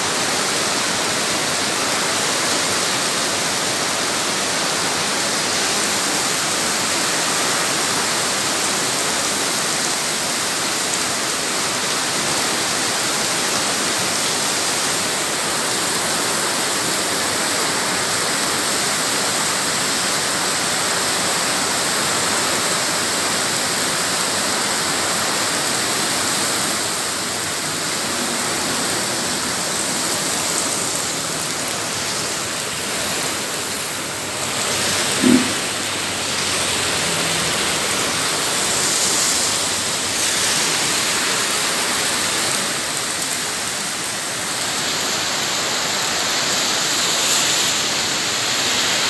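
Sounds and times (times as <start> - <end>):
heavy rain on pavement: 0.0 - 49.0.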